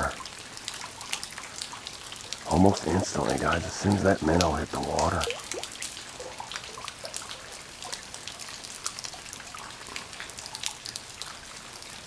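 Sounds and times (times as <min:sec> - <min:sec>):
faint steady hiss: 0:00.0 - 0:12.0
rain pattering on water: 0:00.0 - 0:12.0.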